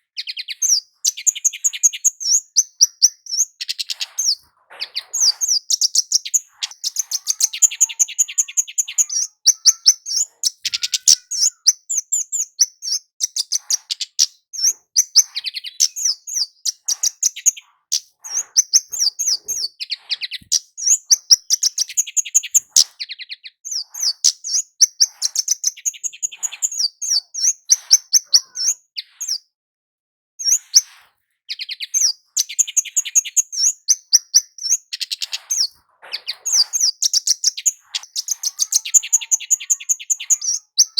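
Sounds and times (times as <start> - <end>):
bird singing high chips and trills: 0.0 - 29.5, 30.4 - 30.9, 31.5 - 40.9.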